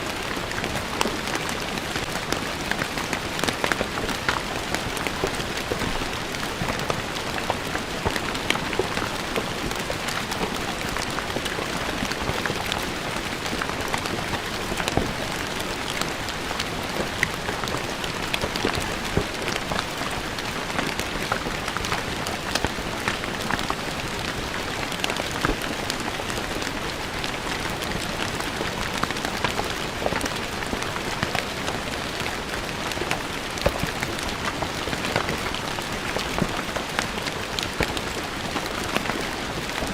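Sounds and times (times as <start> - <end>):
rain on stone paving: 0.0 - 39.9.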